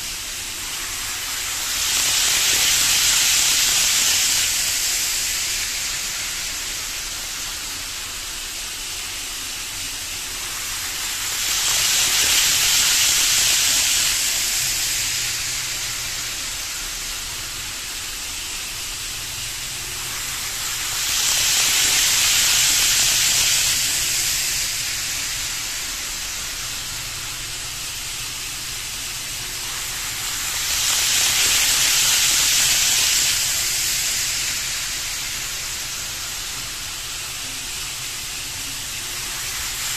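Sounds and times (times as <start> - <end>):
model train whirring hiss: 0.0 - 39.9.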